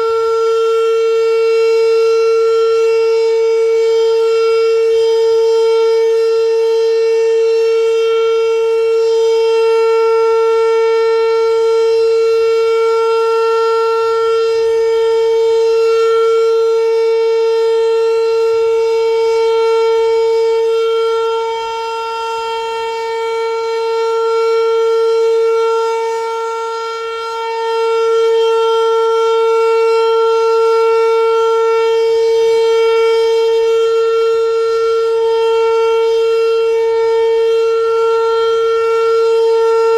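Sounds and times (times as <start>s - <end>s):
tornado siren wailing: 0.0s - 39.9s.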